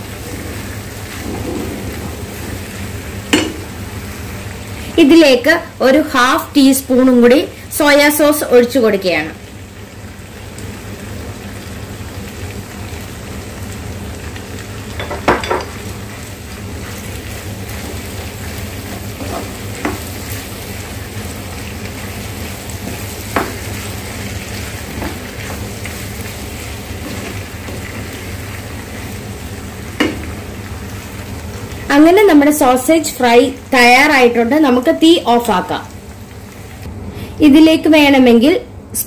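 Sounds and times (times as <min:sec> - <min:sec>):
food sizzling in a frying pan: 0:00.0 - 0:39.0.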